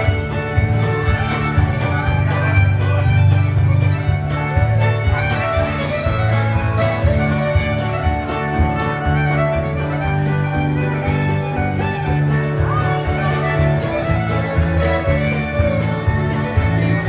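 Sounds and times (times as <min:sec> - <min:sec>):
fiddle dance tune with guitar: 0:00.0 - 0:17.0.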